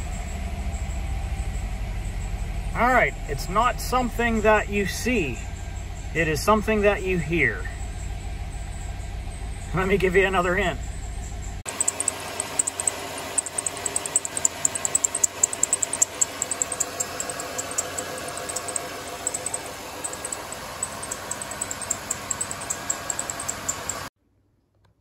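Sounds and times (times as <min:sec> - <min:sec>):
car engine idling: 0:00.0 - 0:24.1
drive belt chirping: 0:00.0 - 0:24.1.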